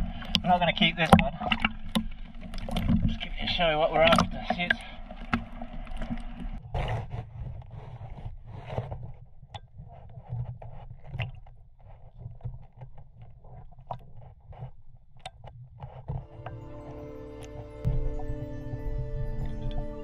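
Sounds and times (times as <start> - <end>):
low underwater rumble: 0.0 - 20.0
sea water sloshing: 0.0 - 20.0
underwater clicks and crackles: 0.0 - 20.0.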